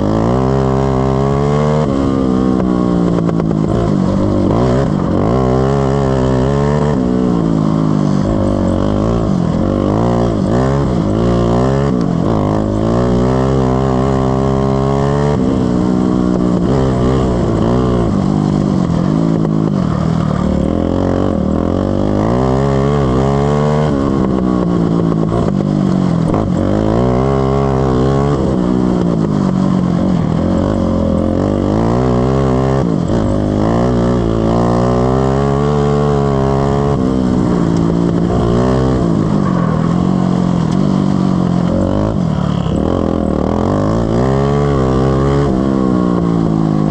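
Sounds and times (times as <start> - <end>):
lawn mower engine revving: 0.0 - 46.9.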